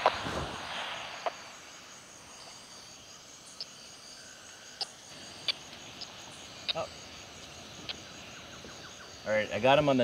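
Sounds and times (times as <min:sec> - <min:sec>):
high-pitched insect chirring: 0:01.0 - 0:10.0.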